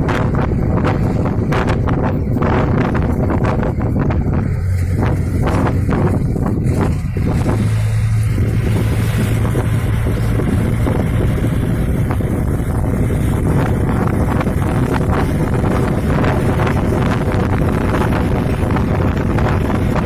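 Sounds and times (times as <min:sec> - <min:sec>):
vehicle rumble and road noise: 0:00.0 - 0:20.0
wind buffeting microphone: 0:00.0 - 0:20.0.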